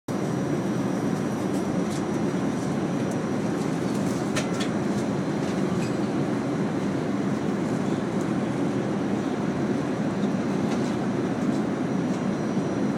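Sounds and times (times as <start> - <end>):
airliner cabin roar: 0.1 - 12.9.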